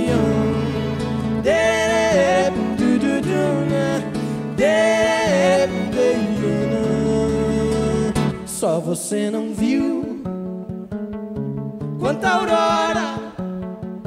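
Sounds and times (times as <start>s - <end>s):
acoustic song with guitar: 0.0s - 14.0s.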